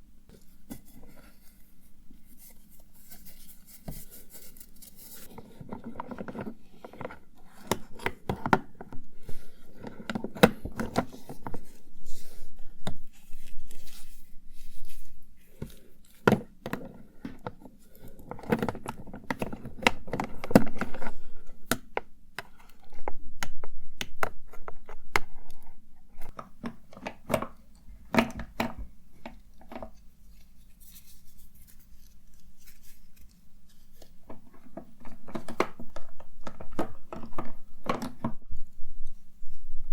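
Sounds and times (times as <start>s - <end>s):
rustling and rummaging: 0.3s - 23.2s, 26.3s - 39.9s.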